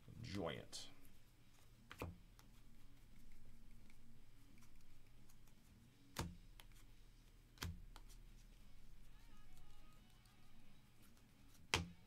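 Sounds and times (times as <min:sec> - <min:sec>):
trading cards flipping: 0:01.5 - 0:12.0.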